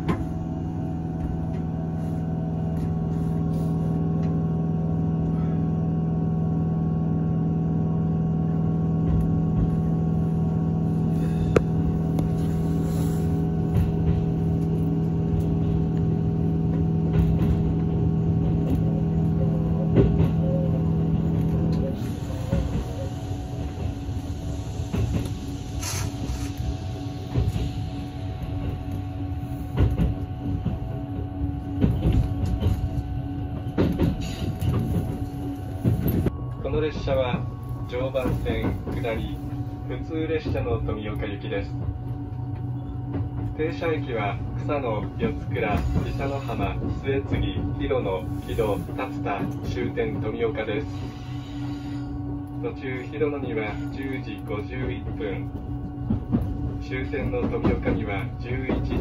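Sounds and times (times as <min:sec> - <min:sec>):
train electric hum: 0:00.0 - 0:59.0.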